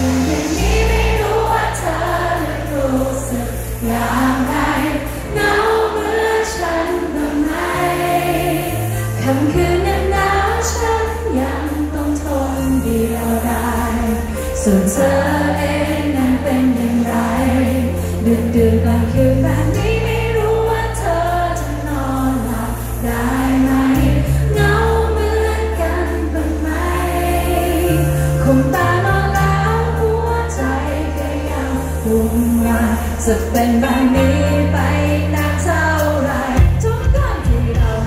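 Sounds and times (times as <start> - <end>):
sustained bass notes: 0.0 - 38.0
woman singing: 0.0 - 38.0.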